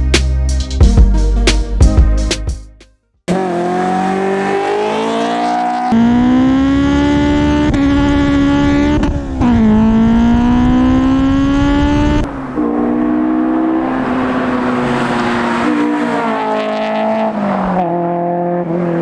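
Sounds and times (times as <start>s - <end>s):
car engine accelerating hard: 3.3s - 19.0s.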